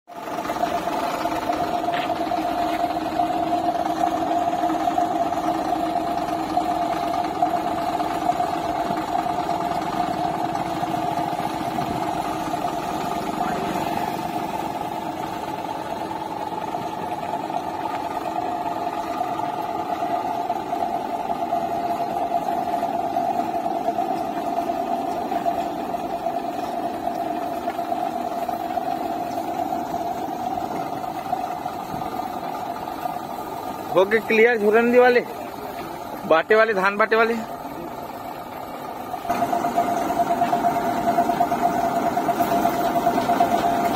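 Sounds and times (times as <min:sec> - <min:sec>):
diesel engine drone: 0:00.1 - 0:43.9.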